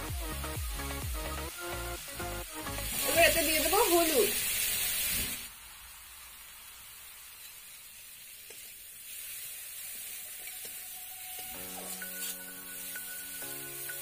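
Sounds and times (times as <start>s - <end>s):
paste sizzling in oil: 0.4s - 14.0s.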